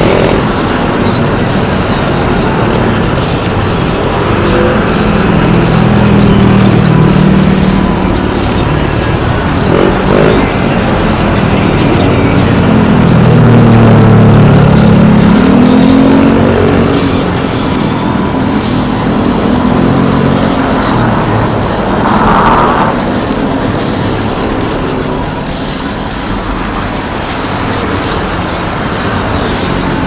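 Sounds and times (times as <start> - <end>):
loud rushing noise: 0.0 - 30.0
vehicles passing on road: 0.0 - 30.0.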